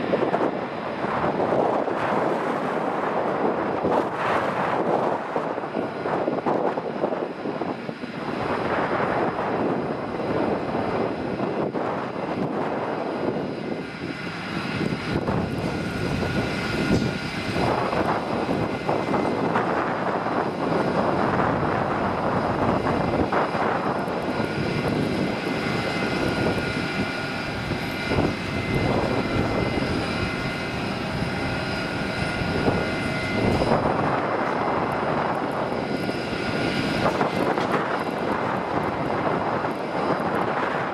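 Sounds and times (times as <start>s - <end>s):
high whining fan tones: 0.0s - 40.9s
jet engines roaring: 0.0s - 40.9s.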